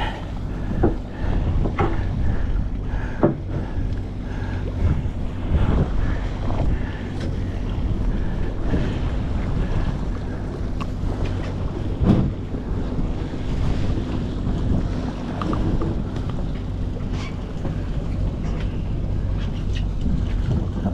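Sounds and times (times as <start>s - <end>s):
boat engine drone: 0.0s - 20.9s
sea washing: 0.0s - 20.9s
wind buffeting microphone: 0.0s - 20.9s.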